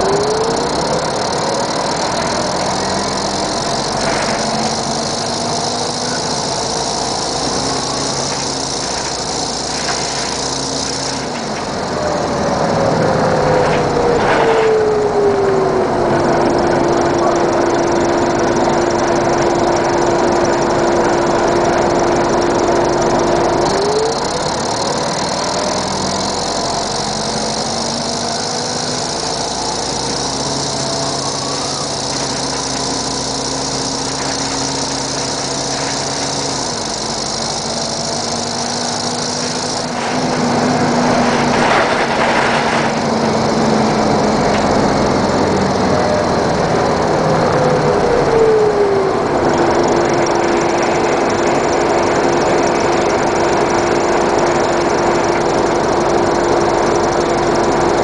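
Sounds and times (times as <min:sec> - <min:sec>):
bus diesel engine running: 0:00.0 - 0:58.0
transmission whine: 0:00.0 - 0:58.0.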